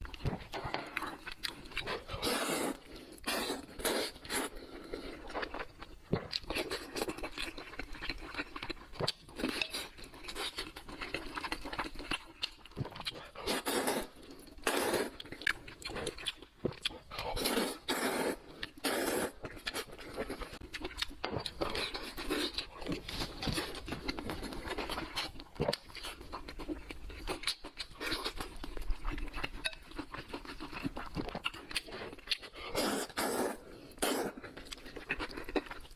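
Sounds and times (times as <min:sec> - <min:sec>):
person chewing and crunching: 0:00.0 - 0:35.9.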